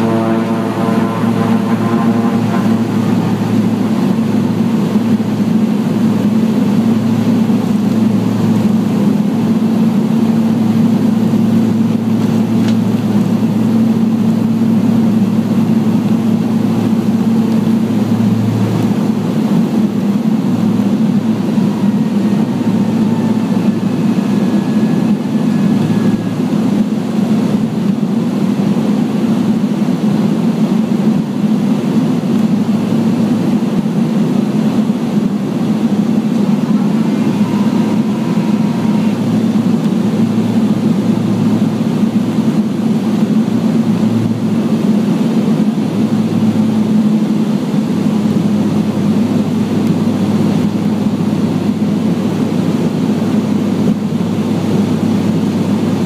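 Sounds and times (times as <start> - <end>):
lower hum: 0.0 - 56.0
turboprop engines and propellers drone: 0.0 - 56.0.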